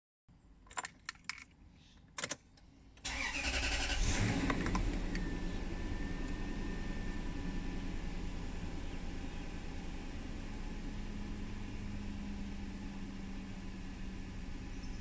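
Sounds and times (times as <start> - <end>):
car engine starting and idling: 2.2 - 15.0.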